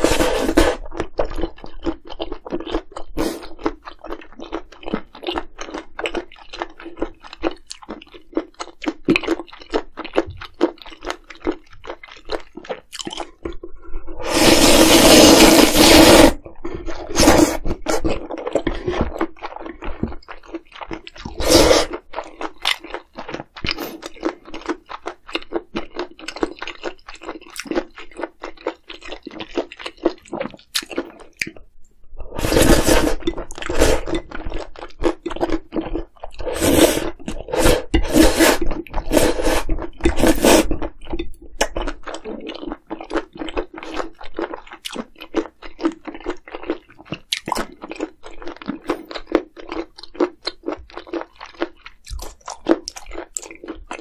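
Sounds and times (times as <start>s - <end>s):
person chewing with wet clicks: 0.8s - 13.8s, 16.4s - 31.8s, 33.1s - 54.0s.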